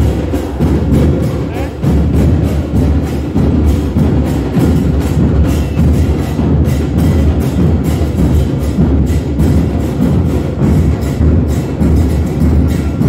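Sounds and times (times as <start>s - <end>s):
bass drums pounding: 0.0s - 13.0s.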